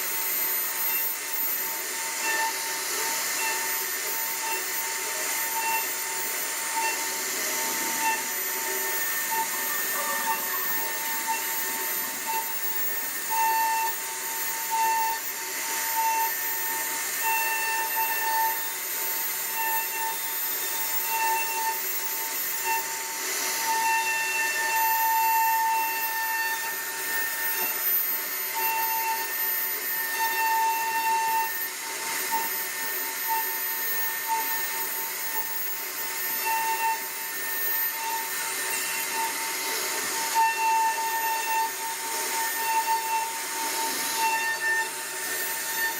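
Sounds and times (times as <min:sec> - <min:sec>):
hiss of wood cutting: 0:00.0 - 0:45.9
router spindle whine: 0:00.0 - 0:45.9.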